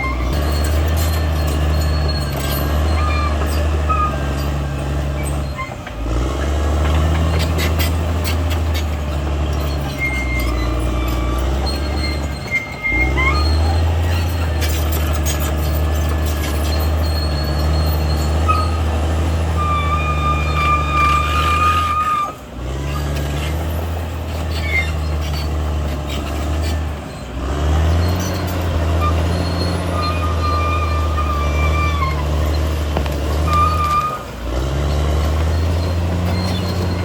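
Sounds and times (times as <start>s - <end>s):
running gear squeaks: 0.0s - 6.0s, 6.8s - 37.0s
bulldozer diesel engine droning: 0.0s - 37.0s.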